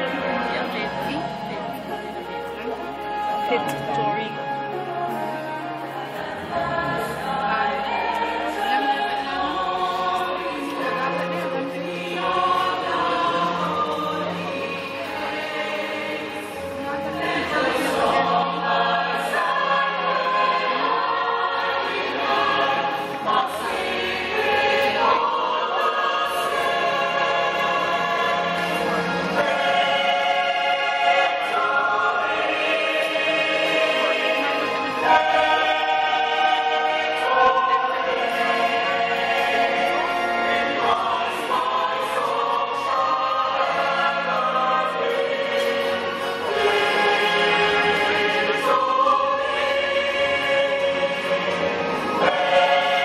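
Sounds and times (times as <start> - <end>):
choir singing gospel: 0.0 - 53.0.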